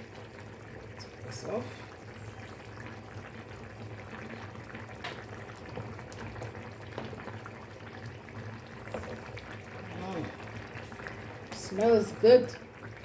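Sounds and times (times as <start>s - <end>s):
sauce bubbles popping: 0.0s - 13.0s.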